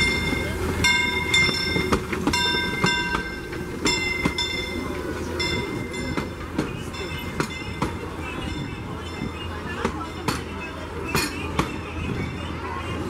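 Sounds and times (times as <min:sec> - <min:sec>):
locomotive bell ringing: 0:00.0 - 0:12.6
steam locomotive rumble: 0:00.0 - 0:13.0
wheels clicking over rail joints: 0:00.0 - 0:13.0.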